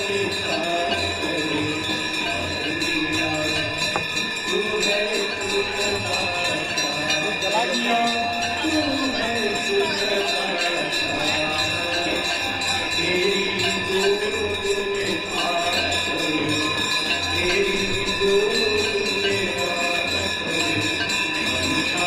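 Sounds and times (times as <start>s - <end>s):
bells ringing: 0.0s - 22.0s
devotional singing: 0.0s - 22.0s.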